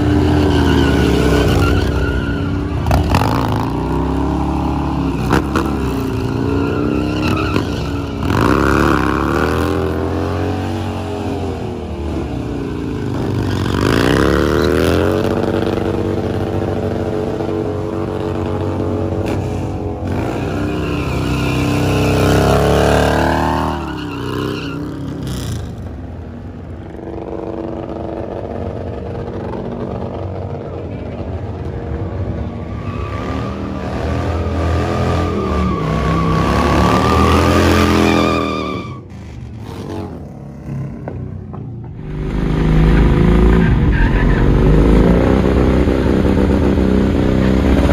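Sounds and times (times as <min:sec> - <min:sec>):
motorcycle engine revving: 0:00.0 - 0:25.9, 0:33.8 - 0:47.9.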